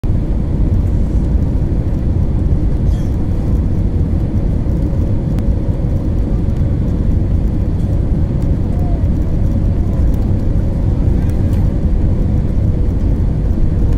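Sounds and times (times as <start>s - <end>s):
airliner engines and rushing air: 0.0s - 13.9s.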